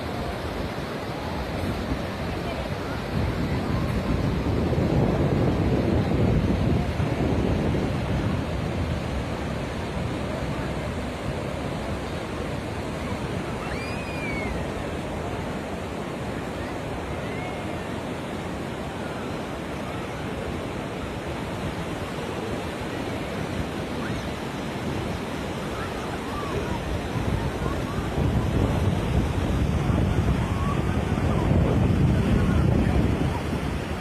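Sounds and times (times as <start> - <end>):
sea surf washing onto beach: 0.0 - 34.0
wind: 0.0 - 34.0.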